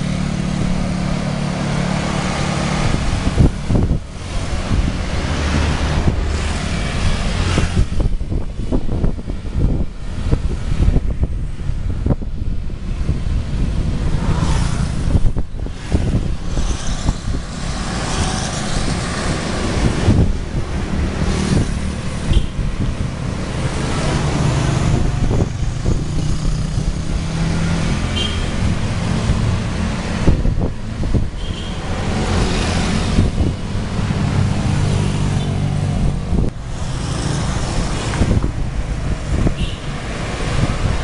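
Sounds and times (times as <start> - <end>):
scooter and car engines: 0.0 - 41.0
wind on microphone: 0.0 - 41.0.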